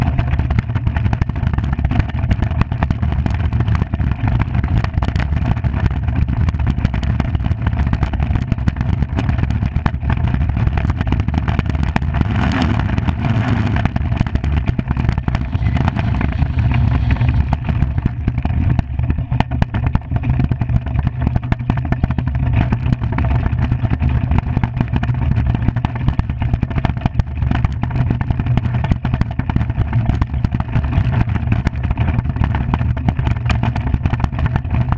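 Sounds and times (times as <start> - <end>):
iceboat runners rumbling on ice: 0.0 - 34.9
sharp clicks and ticks: 0.0 - 34.9.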